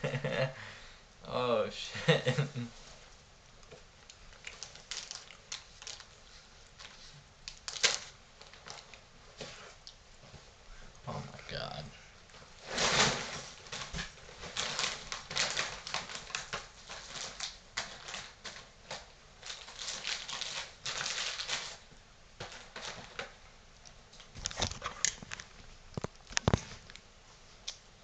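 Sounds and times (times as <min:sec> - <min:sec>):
packaging rustling and crinkling: 0:02.8 - 0:10.6, 0:11.6 - 0:23.5, 0:24.1 - 0:27.7.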